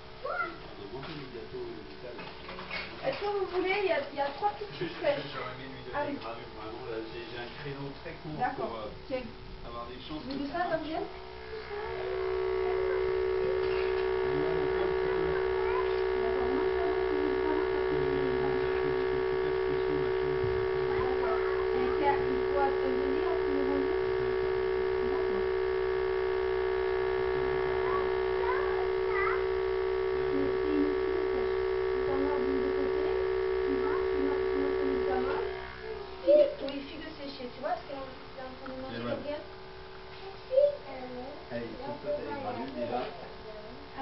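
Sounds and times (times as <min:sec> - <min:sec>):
sampling pump buzzing: 0:00.0 - 0:44.0.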